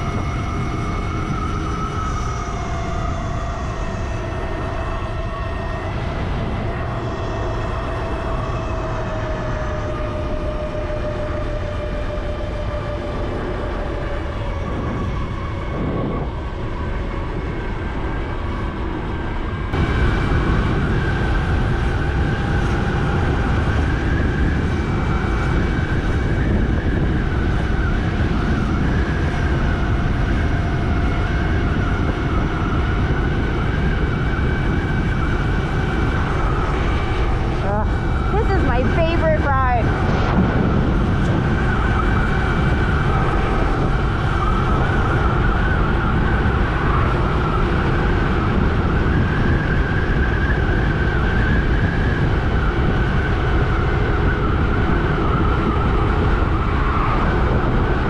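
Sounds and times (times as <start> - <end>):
motorcycle engine drone: 0.0 - 58.0
wind noise on microphone: 0.0 - 58.0.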